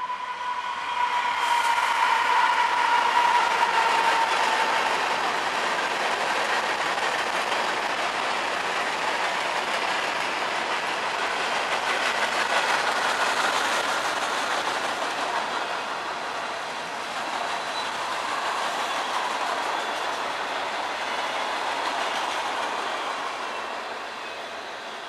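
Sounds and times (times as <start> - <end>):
freight train wheels on rails: 0.0 - 25.0.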